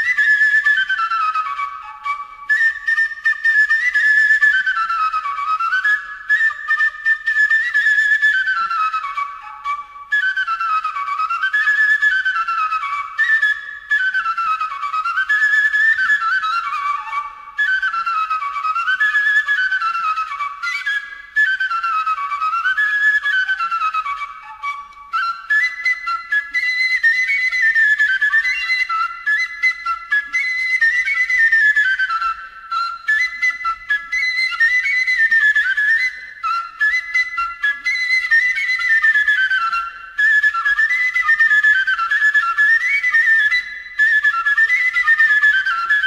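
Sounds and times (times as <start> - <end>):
flute-like instrumental melody: 0.0 - 46.0.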